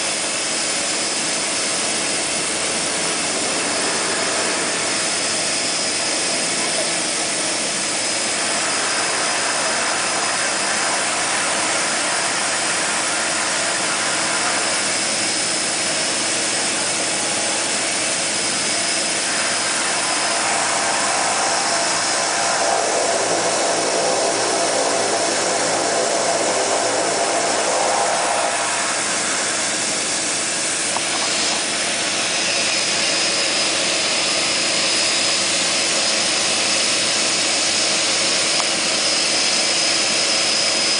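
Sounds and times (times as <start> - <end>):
thin high whine: 0.0 - 40.9
turboprop engine drone: 0.0 - 40.9.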